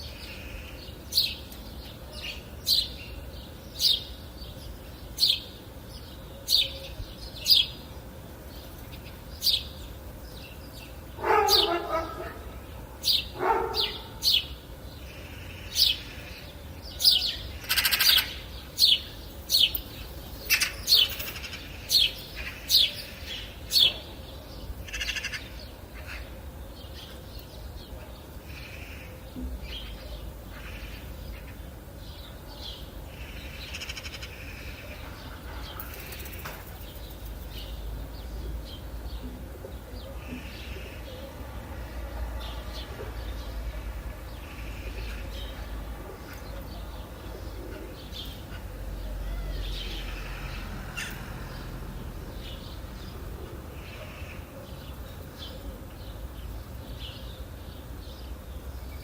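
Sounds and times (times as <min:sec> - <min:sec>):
birds calling: 0:00.0 - 0:59.0
birds chirping softly: 0:00.0 - 0:59.0.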